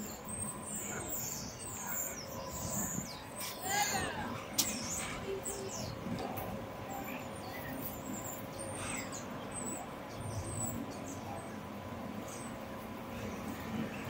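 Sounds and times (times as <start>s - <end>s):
street background din: 0.0s - 14.0s.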